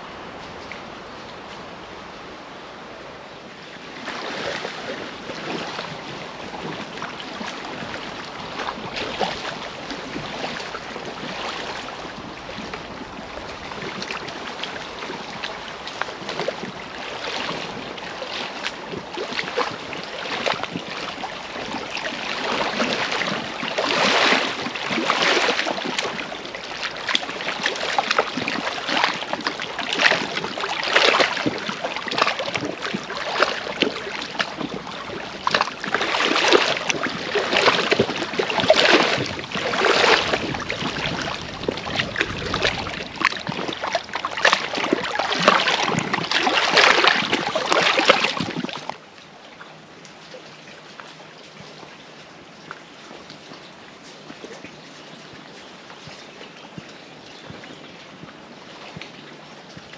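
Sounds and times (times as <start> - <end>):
waves lapping against stones: 3.3 - 59.9.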